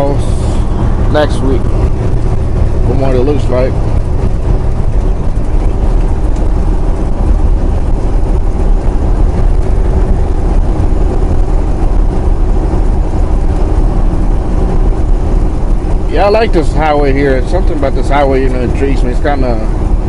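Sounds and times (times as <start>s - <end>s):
truck diesel engine and tyre drone: 0.0s - 20.0s.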